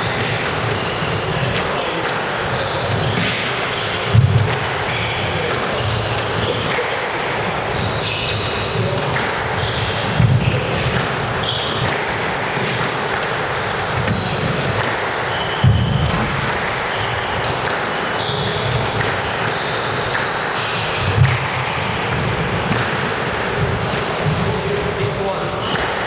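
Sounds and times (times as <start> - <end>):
squash ball hits: 0.0 - 7.1, 8.3 - 25.0, 25.6 - 26.0
shoe squeaks: 0.1 - 6.8, 7.8 - 8.9, 9.6 - 11.9, 13.5 - 17.4, 18.1 - 18.9, 19.5 - 26.0.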